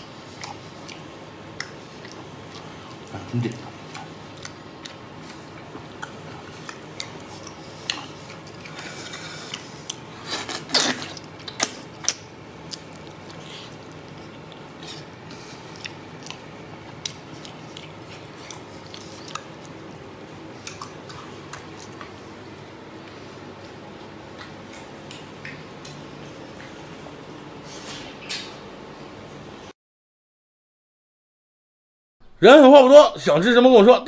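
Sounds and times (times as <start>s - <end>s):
wet chewing and mouth noises: 0.0s - 29.1s.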